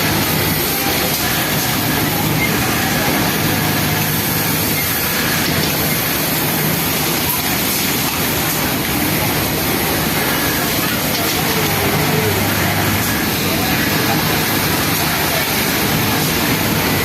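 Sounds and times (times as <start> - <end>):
industrial sewing machines running: 0.0 - 17.0.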